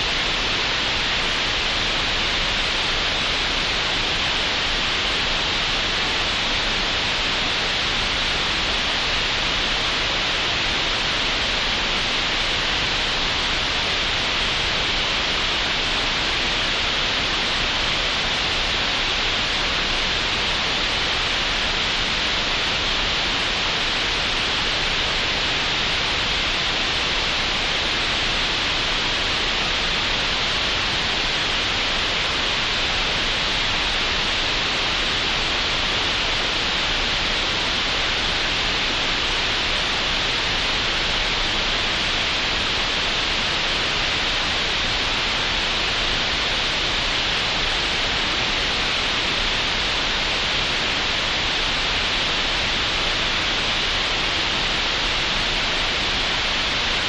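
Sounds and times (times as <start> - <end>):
steady green noise hiss: 0.0 - 57.0.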